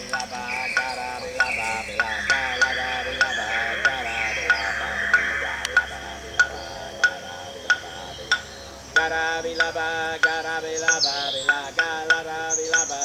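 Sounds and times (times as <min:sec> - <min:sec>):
high bird chirps: 0:00.0 - 0:13.0
sharp click beat: 0:00.0 - 0:13.0
wavering chant-like singing voice: 0:00.0 - 0:13.0.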